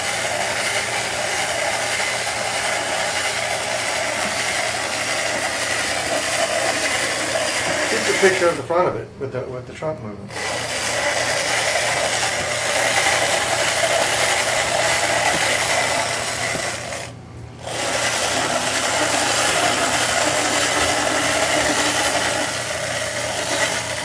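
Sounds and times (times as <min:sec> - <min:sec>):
toy motor and gears whirring: 0:00.0 - 0:08.6, 0:10.3 - 0:24.0.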